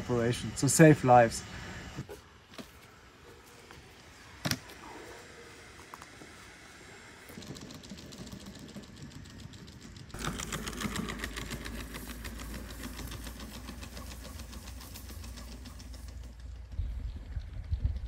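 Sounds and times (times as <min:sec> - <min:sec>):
low steady rumble: 0:03.1 - 0:18.0.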